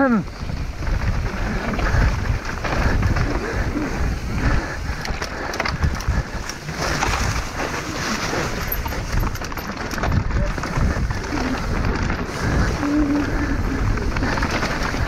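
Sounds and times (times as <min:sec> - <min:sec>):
wind buffeting microphone: 0:00.1 - 0:15.0
mountain bike clattering over trail: 0:00.3 - 0:15.0.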